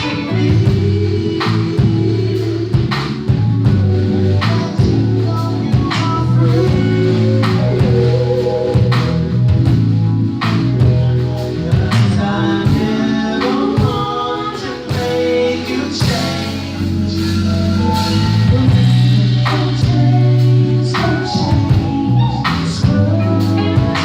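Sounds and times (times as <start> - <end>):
person singing: 0.0 - 9.8, 10.8 - 24.0
drum kit keeping time: 0.0 - 24.0
held bass notes: 0.0 - 24.0
live band playing soul song: 0.0 - 24.0.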